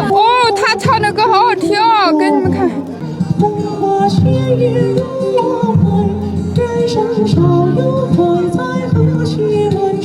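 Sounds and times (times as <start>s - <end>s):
person singing: 0.0s - 10.0s.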